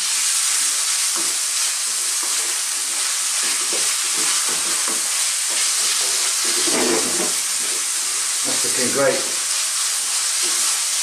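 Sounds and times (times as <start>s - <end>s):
food sizzling in oil: 0.0s - 11.0s
spatula scraping wok: 0.4s - 11.0s.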